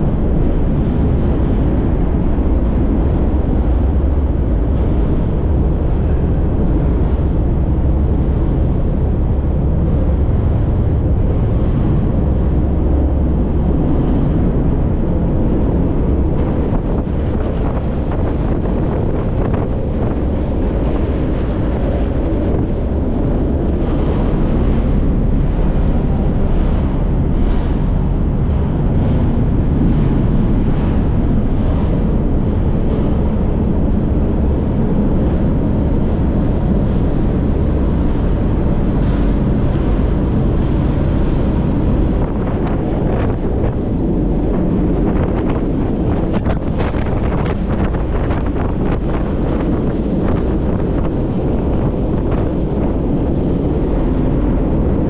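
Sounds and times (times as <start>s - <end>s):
freight train rumbling and rattling: 0.0s - 55.0s
wind on microphone: 0.0s - 55.0s.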